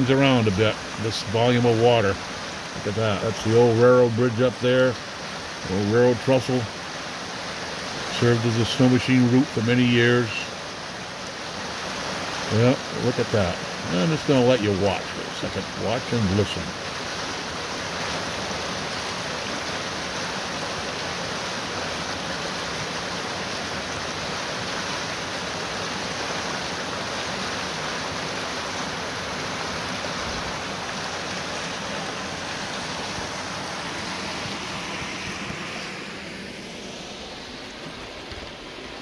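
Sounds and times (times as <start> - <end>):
water rushing over rocks: 0.0 - 39.0.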